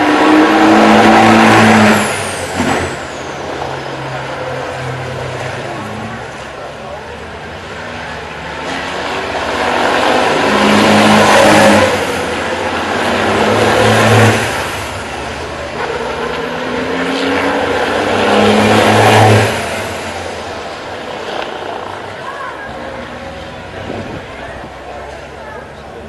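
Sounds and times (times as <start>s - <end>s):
racing trucks passing at speed: 0.0s - 26.0s.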